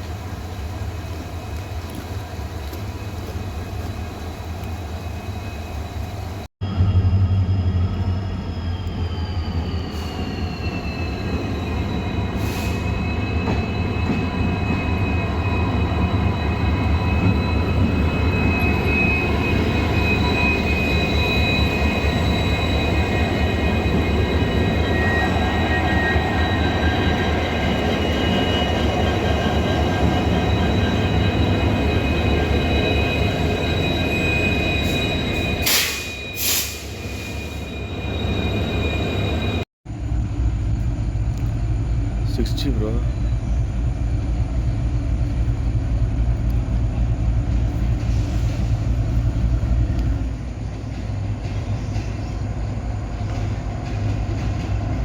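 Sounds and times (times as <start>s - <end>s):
train wheels squealing on rail: 0.0s - 55.0s.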